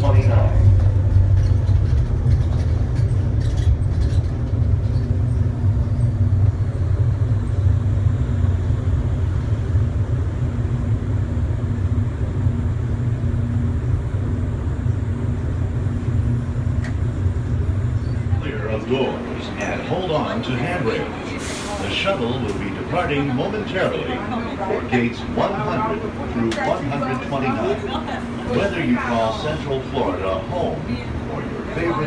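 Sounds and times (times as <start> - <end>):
shuttle car rumble and hum: 0.0 - 32.0.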